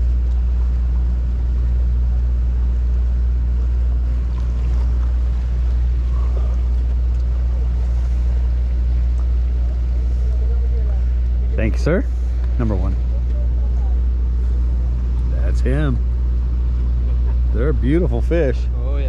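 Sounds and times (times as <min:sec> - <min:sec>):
boat engines idling: 0:00.0 - 0:19.0.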